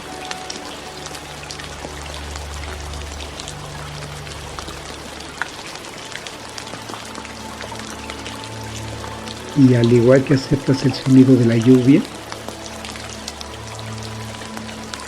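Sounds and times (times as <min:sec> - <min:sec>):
rain hiss: 0:00.0 - 0:15.0
raindrops ticking on a surface: 0:00.0 - 0:15.0.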